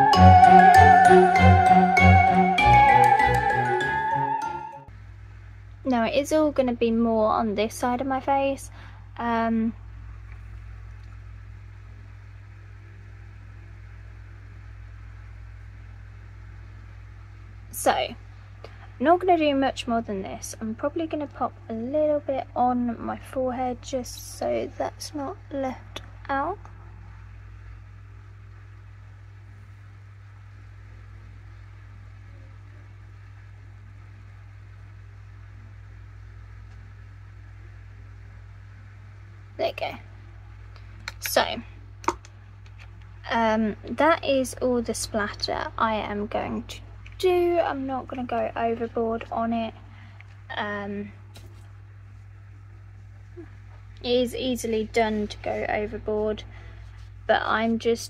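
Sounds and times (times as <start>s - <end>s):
low hum with faint hiss: 0.0s - 58.0s.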